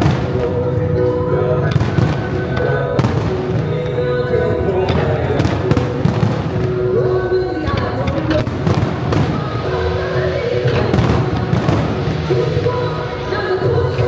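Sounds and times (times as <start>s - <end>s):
fireworks bursting and popping: 0.0s - 13.6s
music playing: 0.0s - 14.0s.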